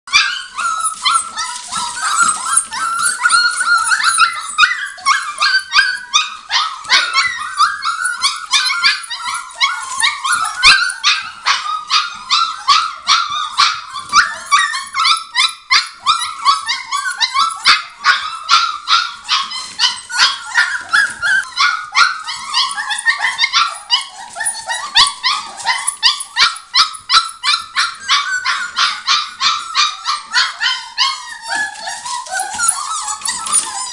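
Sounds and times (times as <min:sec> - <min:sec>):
puppies yapping and whining: 0:00.1 - 0:33.9.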